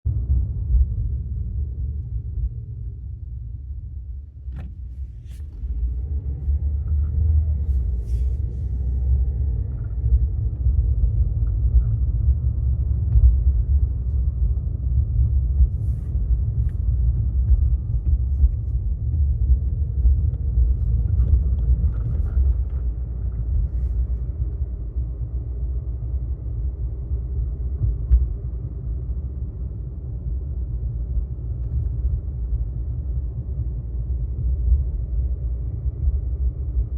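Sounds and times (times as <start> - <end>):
car engine rumble: 0.0 - 36.9.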